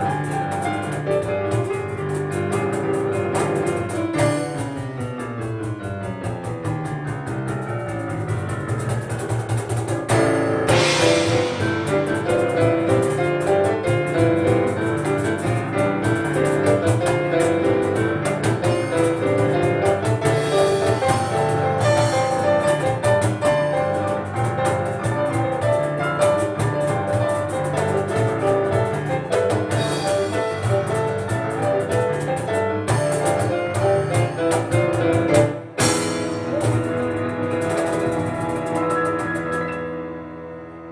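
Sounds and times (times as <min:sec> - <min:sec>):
cajon hits: 0:00.0 - 0:40.0
fast piano lines: 0:00.0 - 0:40.9.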